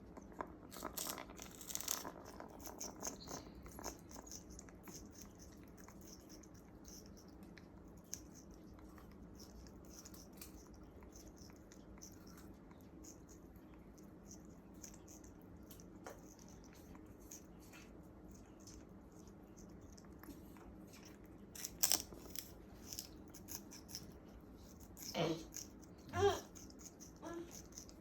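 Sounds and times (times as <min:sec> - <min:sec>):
parrot crunching sugarcane: 0:00.0 - 0:28.0.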